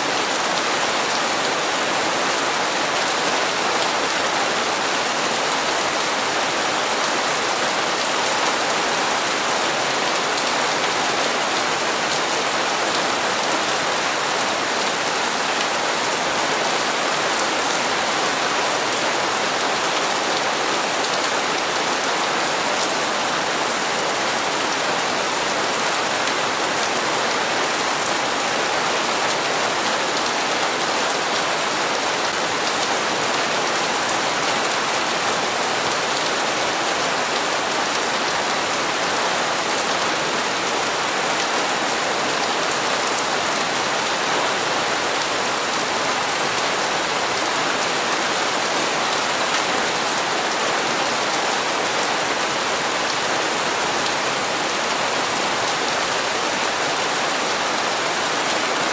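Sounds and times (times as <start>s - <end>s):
heavy rain on hard surfaces: 0.0s - 58.9s.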